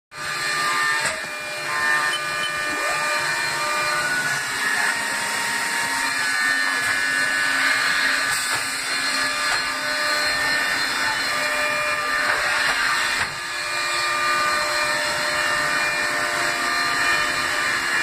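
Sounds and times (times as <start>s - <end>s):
lathe whirring with high whine: 0.2s - 18.0s.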